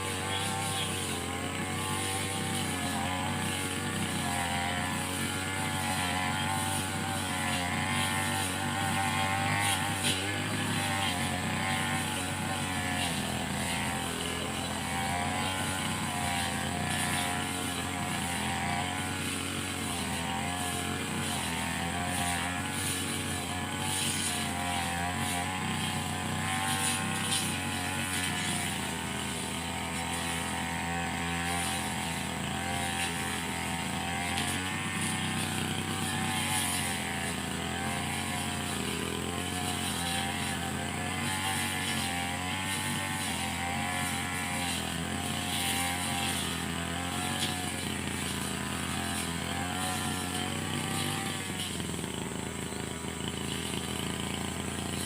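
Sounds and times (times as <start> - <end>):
brush cutter cutting grass: 0.0 - 55.0.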